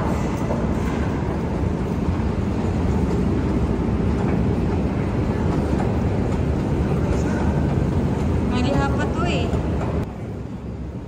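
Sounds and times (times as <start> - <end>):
escalator rumble and hiss: 0.0 - 11.0.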